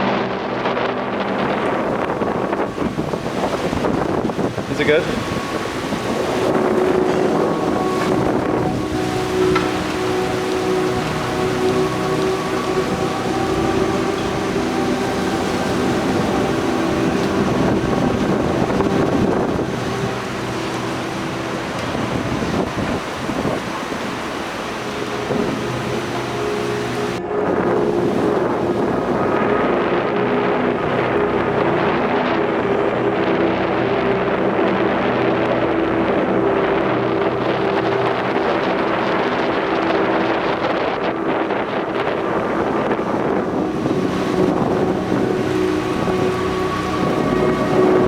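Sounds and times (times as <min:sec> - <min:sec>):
gusting wind: 0:00.0 - 0:48.0
rain rushing: 0:00.0 - 0:48.0.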